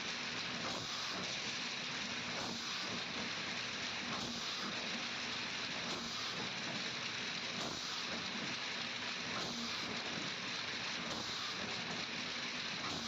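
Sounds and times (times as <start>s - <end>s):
washing machine spraying hiss: 0.0s - 6.6s, 7.5s - 13.0s.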